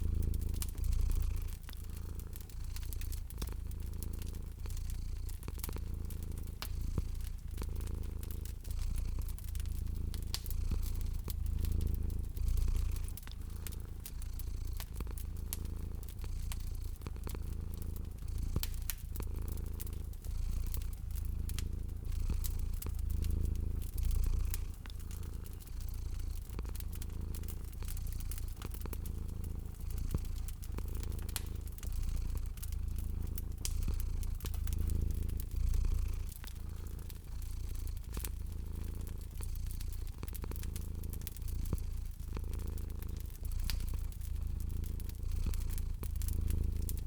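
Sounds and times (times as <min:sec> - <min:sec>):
cat purring: 0:00.0 - 0:47.0
wood fire crackling: 0:00.0 - 0:47.0.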